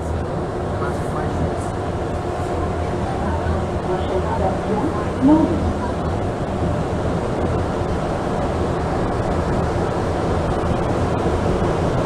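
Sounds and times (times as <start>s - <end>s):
train car rumbling roar: 0.0s - 12.0s.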